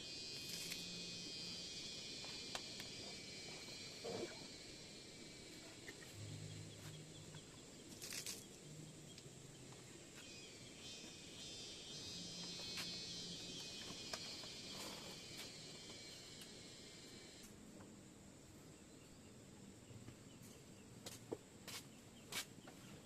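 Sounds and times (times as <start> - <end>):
faint low hum: 0.0 - 23.0
insects droning: 0.0 - 23.0.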